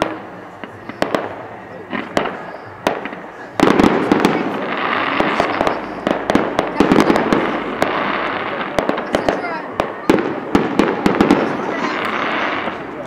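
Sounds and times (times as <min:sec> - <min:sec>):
crackle of firework stars: 0:00.0 - 0:13.0
firework shells bursting: 0:00.0 - 0:13.0.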